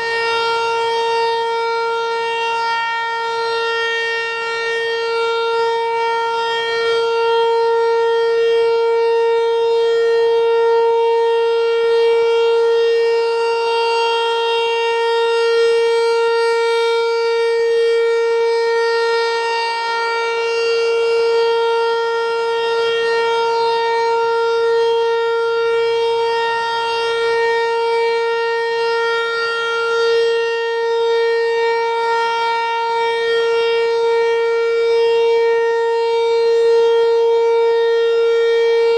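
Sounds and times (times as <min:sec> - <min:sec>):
rotating warning siren: 0:00.0 - 0:38.9.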